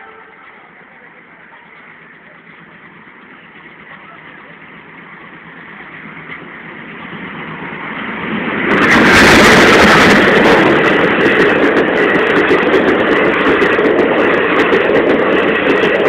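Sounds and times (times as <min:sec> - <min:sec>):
train rumble passing: 0:00.0 - 0:16.0
train wheels clattering: 0:00.0 - 0:16.0.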